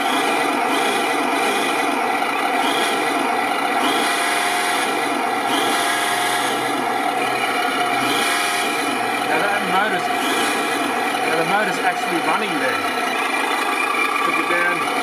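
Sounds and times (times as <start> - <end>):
simulated engine sound from speaker: 0.0 - 15.0.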